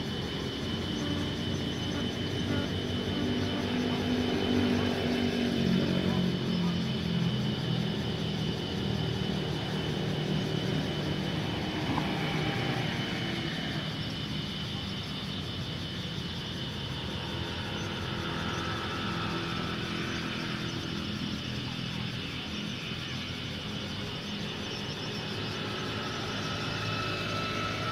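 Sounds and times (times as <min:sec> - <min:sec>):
traffic hum: 0:00.0 - 0:27.9.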